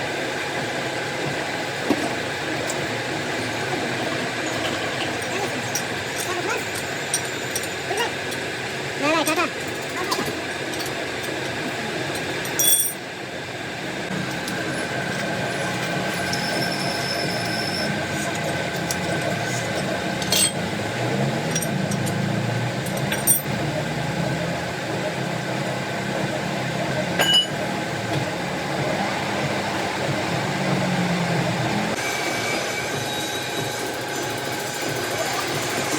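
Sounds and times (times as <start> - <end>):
workshop machine noise: 0.0 - 35.9.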